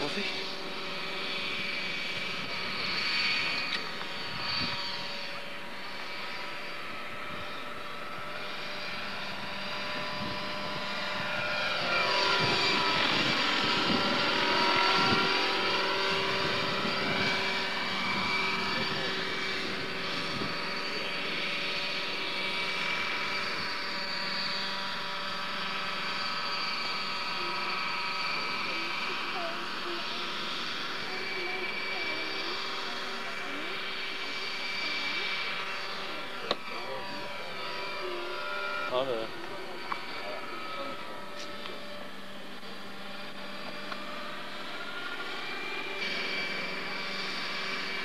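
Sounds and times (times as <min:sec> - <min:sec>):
model helicopter engine whine: 0:00.0 - 0:48.0.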